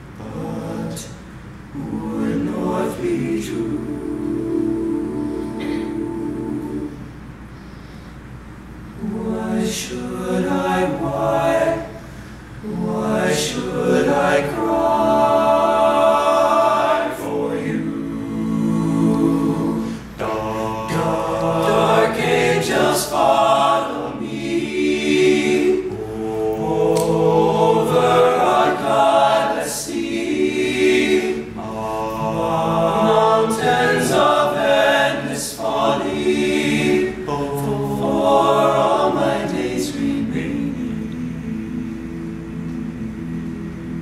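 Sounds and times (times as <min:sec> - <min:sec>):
male group singing in harmony: 0:00.2 - 0:07.1, 0:09.0 - 0:44.0.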